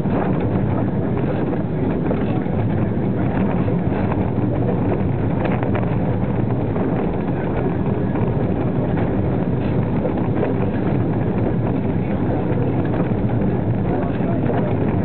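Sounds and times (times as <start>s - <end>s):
rumble of slow-moving train: 0.0s - 15.0s
wind buffeting microphone: 0.0s - 15.0s.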